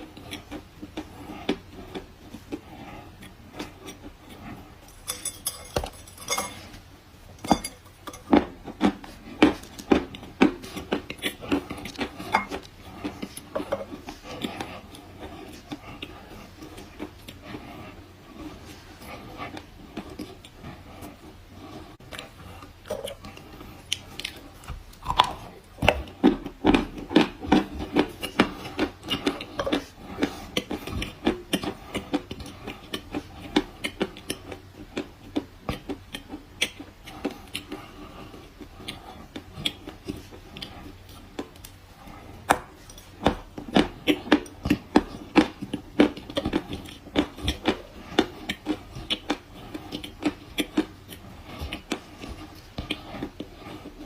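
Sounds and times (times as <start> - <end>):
chalk crunching while chewed: 7.4 - 54.0.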